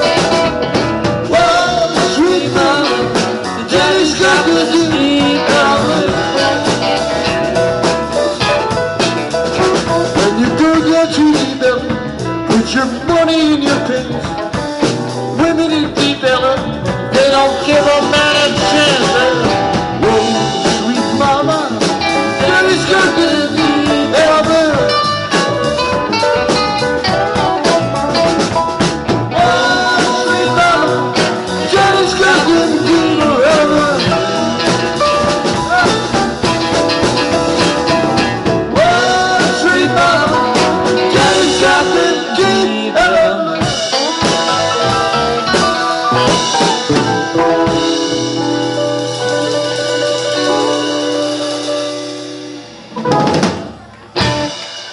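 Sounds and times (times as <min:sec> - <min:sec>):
bass guitar: 0:00.0 - 0:54.9
drum kit: 0:00.0 - 0:54.9
electric guitars: 0:00.0 - 0:54.9
keyboard: 0:00.0 - 0:54.9.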